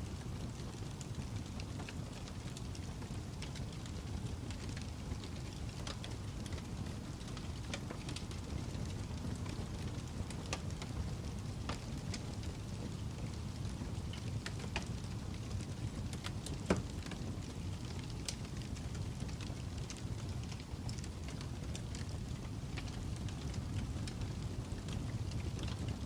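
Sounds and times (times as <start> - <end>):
campfire crackling: 0.1 - 26.0.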